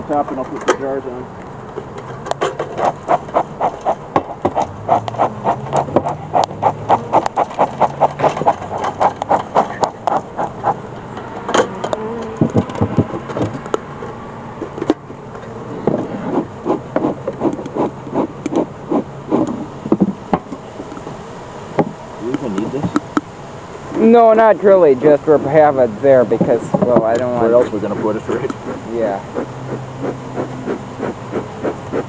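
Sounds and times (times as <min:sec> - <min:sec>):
honeybees buzzing: 0:00.9 - 0:32.0
bee smoker bellows puffing: 0:01.5 - 0:13.7, 0:14.6 - 0:32.0.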